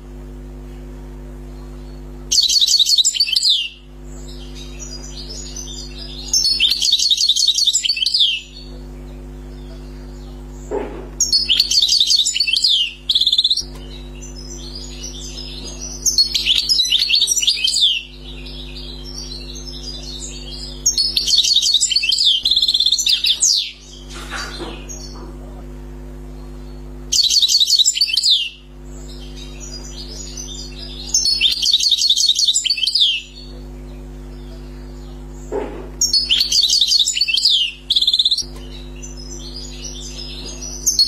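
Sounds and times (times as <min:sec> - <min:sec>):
steady low hum: 0:00.0 - 0:41.0
goldfinch twittering song: 0:01.5 - 0:25.6, 0:26.3 - 0:41.0.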